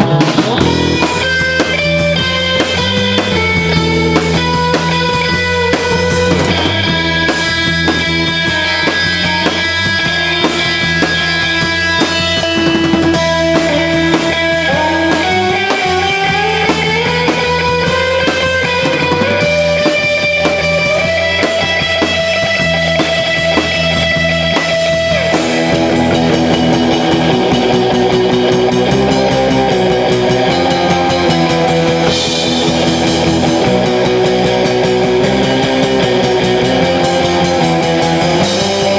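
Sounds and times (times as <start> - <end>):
guitar slide: 0.0 - 38.9
instrumental rock band playing: 0.0 - 38.9.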